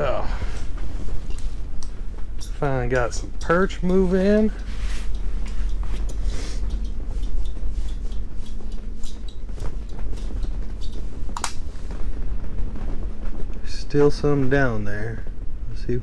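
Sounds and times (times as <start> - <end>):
strong wind buffeting shack: 0.0 - 16.0.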